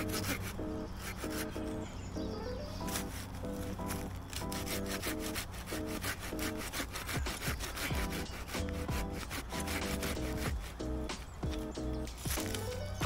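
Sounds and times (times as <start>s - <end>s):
hand saw cutting wood: 0.0s - 1.8s, 2.8s - 11.6s
background music: 0.0s - 13.0s.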